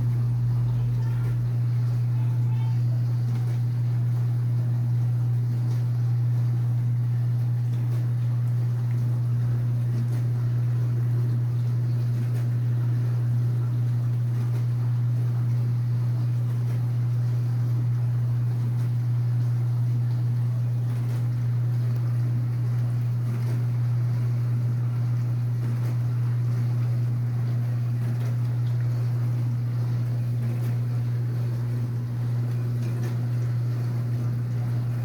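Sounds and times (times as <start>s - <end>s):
appliance motor humming: 0.0s - 35.0s.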